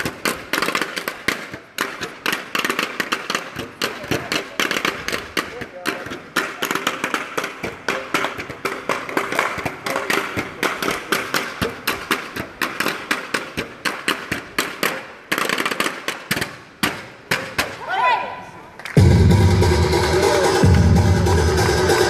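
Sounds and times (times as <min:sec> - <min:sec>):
wooden blocks clacking: 0:00.0 - 0:17.7.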